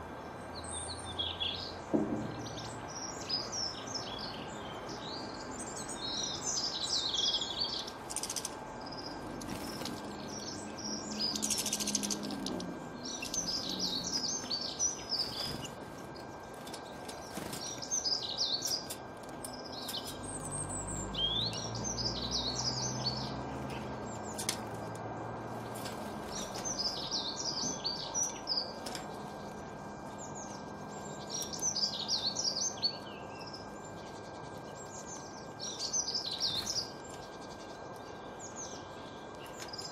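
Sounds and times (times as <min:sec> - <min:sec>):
songbirds twittering: 0:00.0 - 0:39.9.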